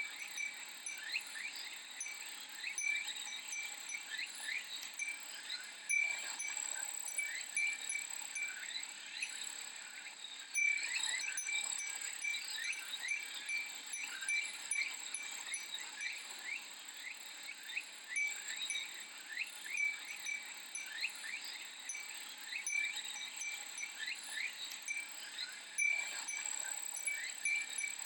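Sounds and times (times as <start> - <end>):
glass wind chime tinkling: 0.0 - 9.6, 10.5 - 17.0, 18.0 - 28.0
cicada drone: 0.0 - 28.0.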